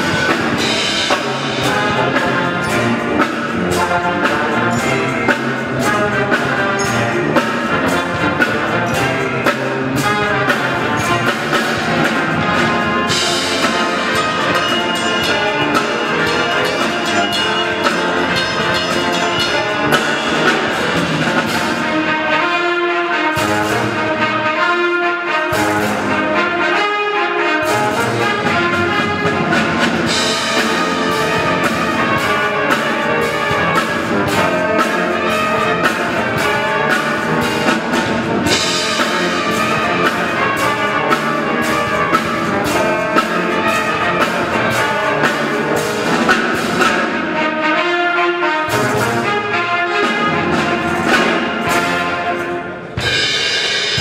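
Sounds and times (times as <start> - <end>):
steady drum beat: 0.0 - 22.4, 27.7 - 47.5, 48.6 - 54.0
military brass band playing: 0.0 - 54.0.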